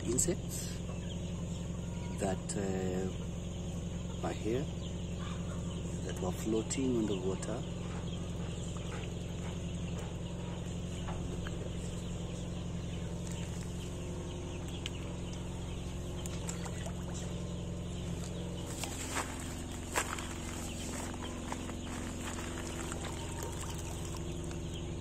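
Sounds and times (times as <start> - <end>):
poultry clucking: 0.0 - 25.0
steady low hum: 0.0 - 25.0.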